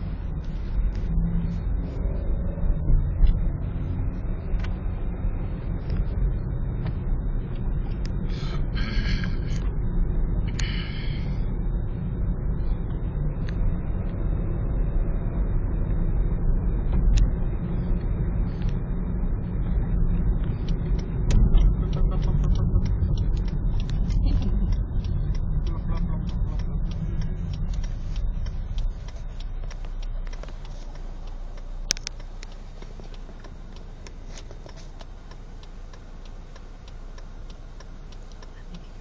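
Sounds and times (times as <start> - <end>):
car interior road rumble: 0.0 - 39.0.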